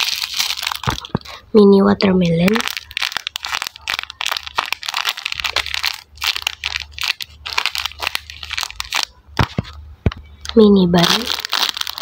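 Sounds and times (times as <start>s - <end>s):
plastic bag crinkling: 0.0s - 1.4s, 2.2s - 9.8s, 10.4s - 12.0s.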